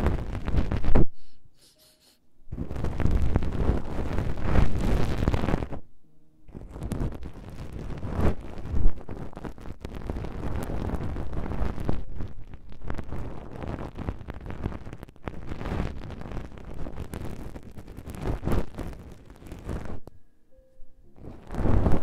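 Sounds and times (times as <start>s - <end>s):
rod scratching on microphone: 0.0s - 5.8s, 6.5s - 20.1s, 21.2s - 22.0s.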